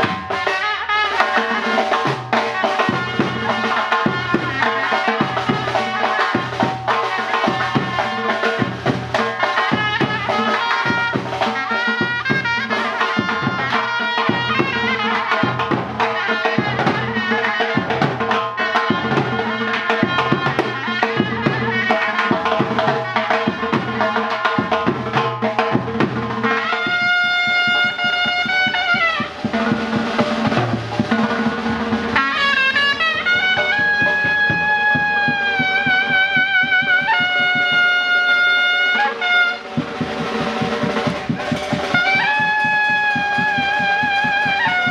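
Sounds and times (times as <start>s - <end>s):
double-reed shawm melody: 0.0s - 44.9s
steady drum beats: 0.0s - 44.9s.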